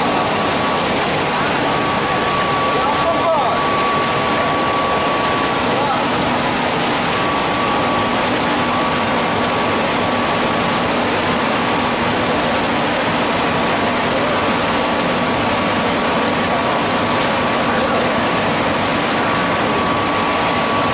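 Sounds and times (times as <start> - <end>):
high machine whine: 0.0 - 20.9.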